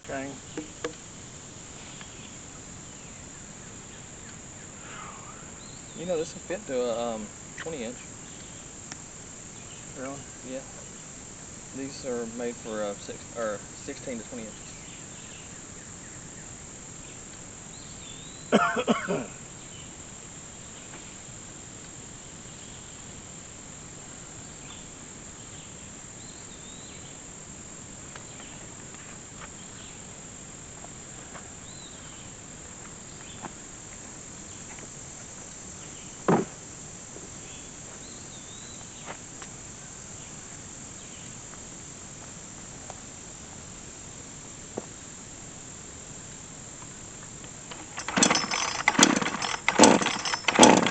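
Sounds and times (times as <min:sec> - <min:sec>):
insect chorus: 0:00.0 - 0:50.9.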